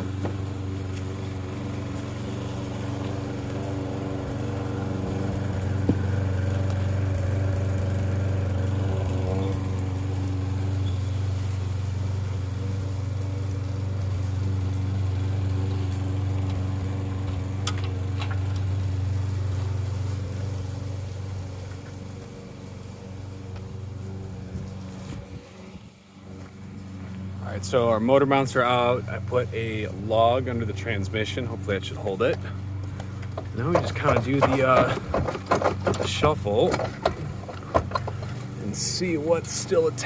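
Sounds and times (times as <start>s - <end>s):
engine drone: 0.0s - 40.0s.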